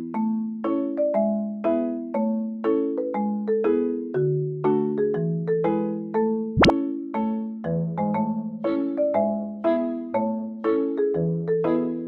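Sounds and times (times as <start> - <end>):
marimba-like mallet percussion tune: 0.0 - 9.4, 10.0 - 12.0.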